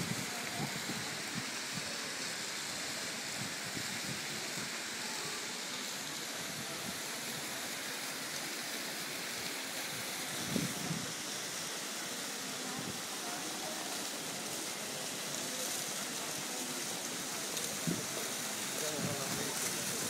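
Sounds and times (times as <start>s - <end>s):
fountain jets hissing and splashing: 0.0s - 20.0s.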